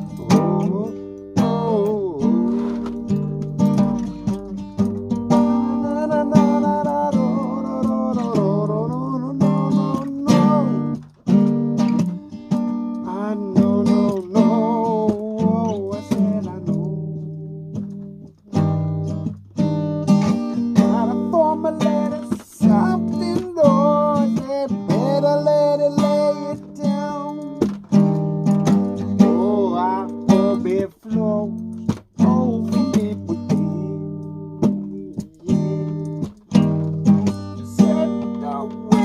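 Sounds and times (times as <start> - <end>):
acoustic guitar strummed: 0.0 - 39.0.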